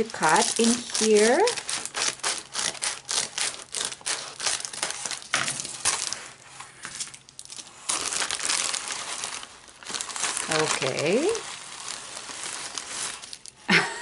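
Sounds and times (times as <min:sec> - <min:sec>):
scissors cutting plastic: 0:00.0 - 0:11.4
plastic mailer crinkling: 0:00.0 - 0:13.7.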